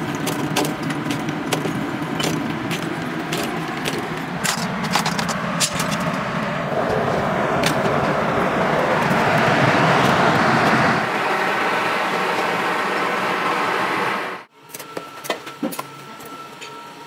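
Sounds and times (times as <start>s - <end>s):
furnace rushing roar: 0.0s - 14.7s.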